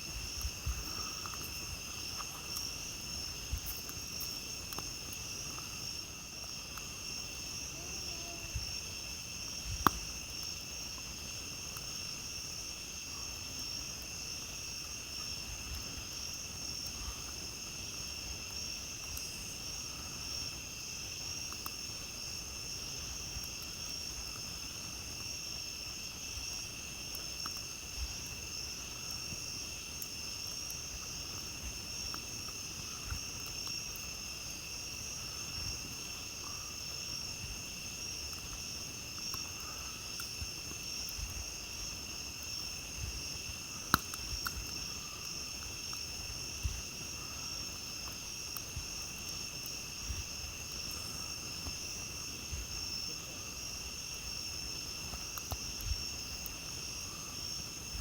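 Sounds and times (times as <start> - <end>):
faint campfire crackles: 0.0 - 58.0
night insects trilling: 0.0 - 58.0.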